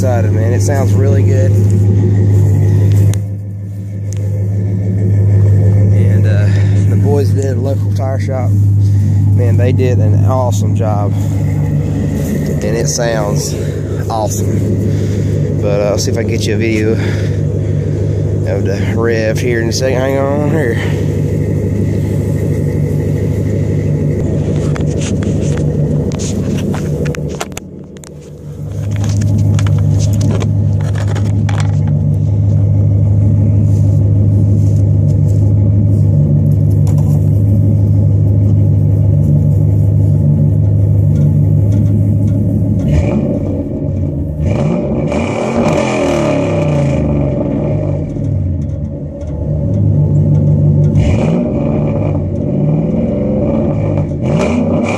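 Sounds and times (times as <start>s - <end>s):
truck engine idling and revving: 0.0s - 54.9s.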